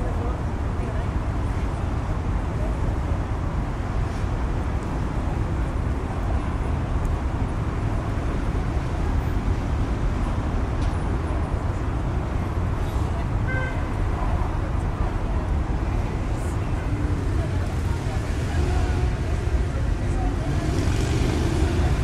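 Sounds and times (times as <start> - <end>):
road traffic din: 0.0 - 22.0.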